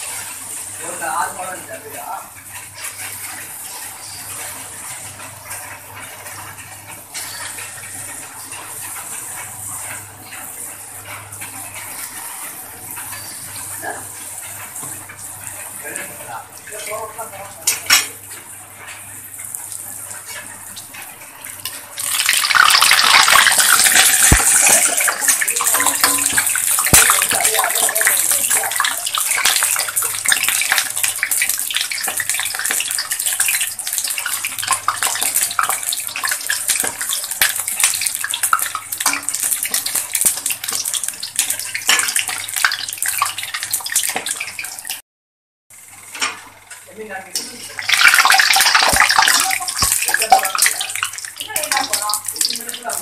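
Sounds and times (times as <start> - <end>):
oil sizzling and crackling: 0.0 - 45.0, 45.7 - 53.0.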